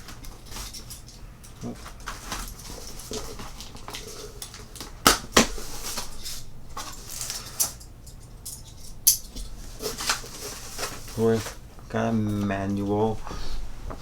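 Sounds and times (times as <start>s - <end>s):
packaging rustling and scraping: 0.0s - 11.6s.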